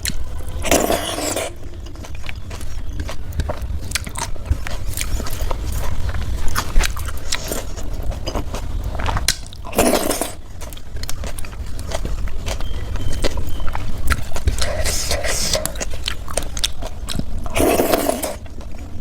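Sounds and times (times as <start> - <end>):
person chewing food: 0.0 - 19.0
steady low hum: 0.0 - 19.0.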